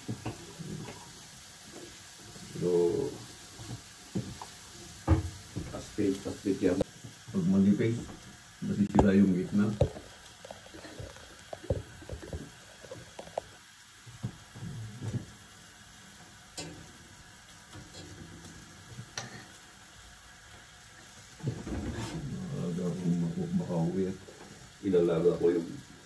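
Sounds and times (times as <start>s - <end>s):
vegetable slices sizzling on grill pan: 0.0s - 26.0s.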